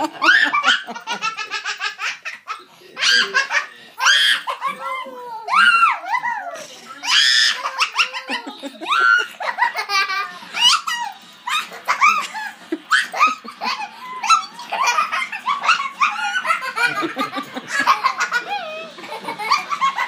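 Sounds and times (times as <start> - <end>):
child laughing: 0.0 - 20.0.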